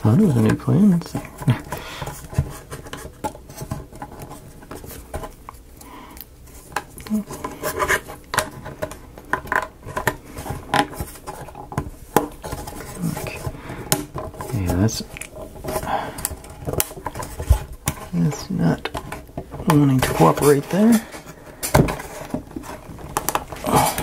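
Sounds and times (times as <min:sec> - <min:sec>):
wooden pieces clicking and scraping: 0:00.1 - 0:24.0.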